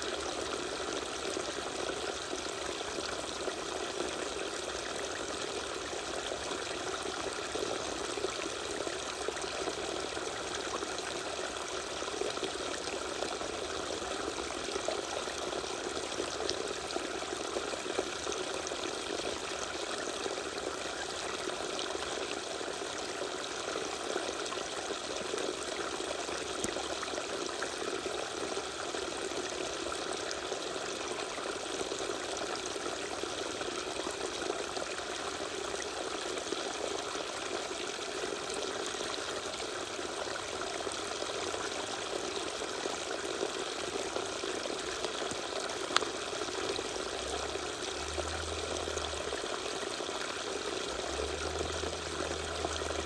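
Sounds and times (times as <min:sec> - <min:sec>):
small waterfall splashing: 0:00.0 - 0:53.0.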